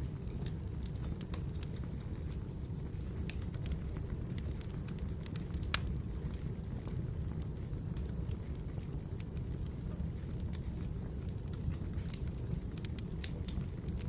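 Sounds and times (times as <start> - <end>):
fire low rumble: 0.0 - 14.0
firewood crackling and popping: 0.0 - 14.0.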